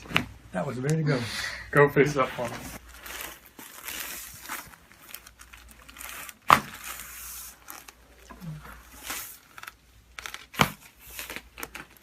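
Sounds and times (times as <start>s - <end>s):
rustling of table cover: 2.1s - 12.0s.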